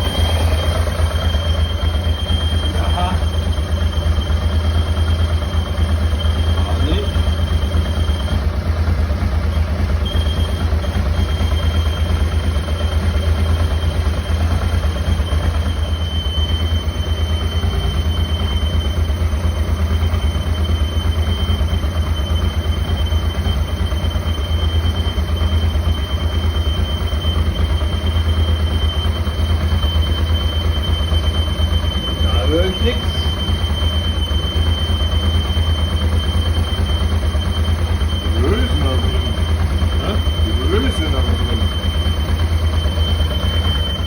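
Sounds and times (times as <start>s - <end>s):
high continuous squeal: 0.0s - 44.0s
motorcycle engine running: 0.0s - 44.0s.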